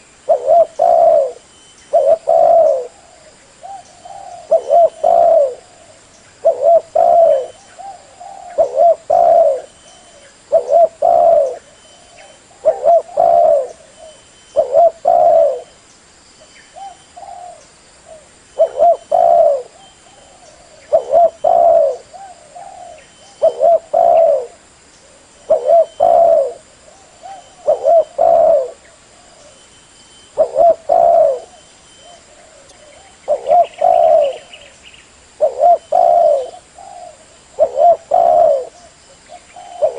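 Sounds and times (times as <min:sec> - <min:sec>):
dove cooing: 0:00.0 - 0:15.8, 0:16.7 - 0:29.7, 0:30.3 - 0:39.9.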